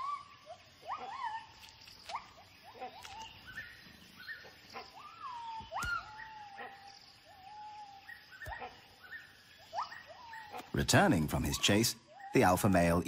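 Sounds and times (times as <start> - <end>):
gibbon whooping calls: 0.0 - 10.7.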